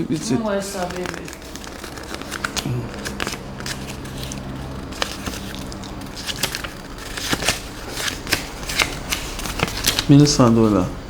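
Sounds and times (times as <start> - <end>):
crackling and clicks of handling: 0.1 - 10.5.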